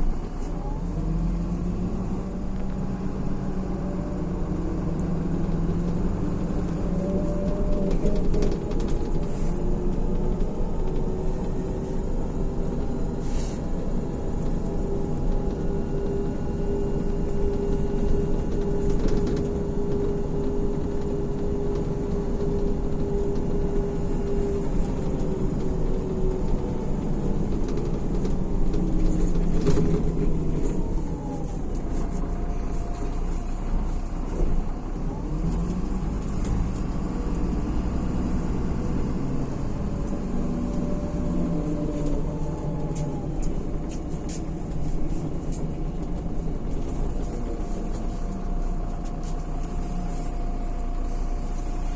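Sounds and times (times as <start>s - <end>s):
bus diesel engine: 0.0s - 51.9s
road rumble: 0.0s - 51.9s.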